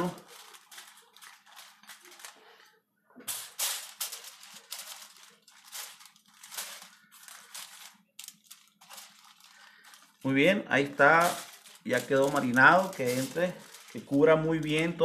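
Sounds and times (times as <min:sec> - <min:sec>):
foil crackling: 0:00.0 - 0:15.0.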